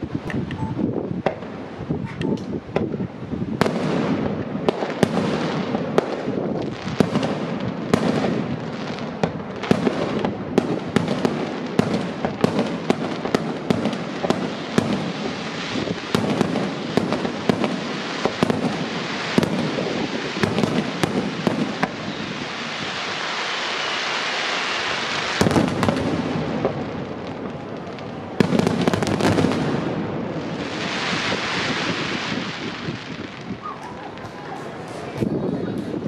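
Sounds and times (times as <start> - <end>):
fireworks crackle and rumble: 0.0 - 36.0.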